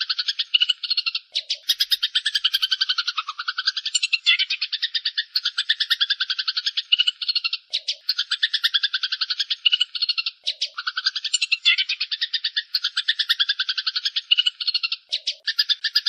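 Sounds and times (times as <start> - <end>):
sparrows chirping harshly: 0.0 - 16.0.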